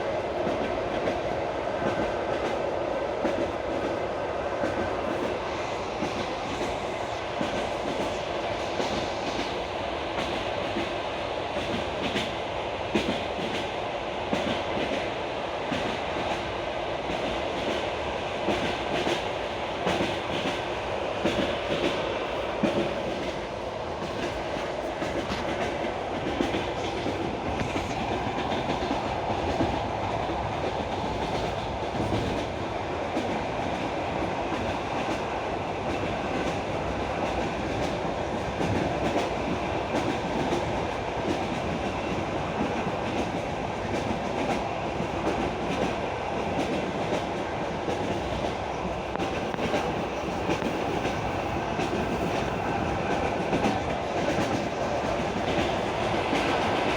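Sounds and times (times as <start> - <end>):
train wheels rumbling on track: 0.0 - 56.9.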